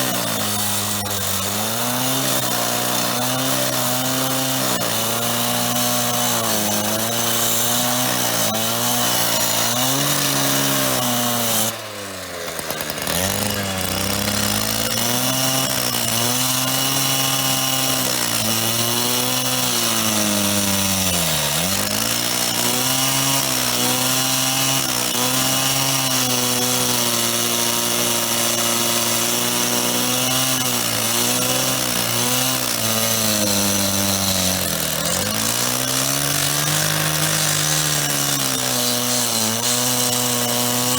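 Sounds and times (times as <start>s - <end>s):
power saw cutting metal: 0.0s - 40.9s.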